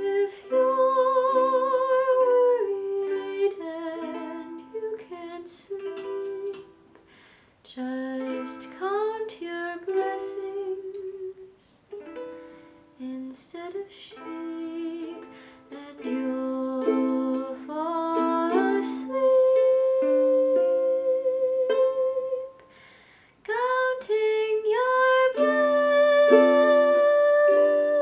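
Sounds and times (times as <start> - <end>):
woman singing: 0.0 - 6.8, 7.6 - 11.8, 13.0 - 22.7, 23.4 - 28.0
ukulele strumming: 0.0 - 6.9, 8.0 - 11.3, 11.9 - 12.9, 14.0 - 22.6, 24.8 - 28.0.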